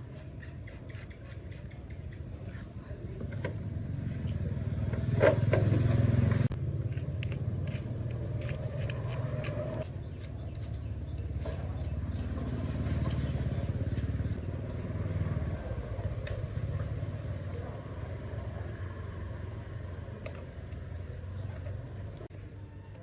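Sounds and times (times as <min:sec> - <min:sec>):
low motor rumble: 0:03.3 - 0:23.0.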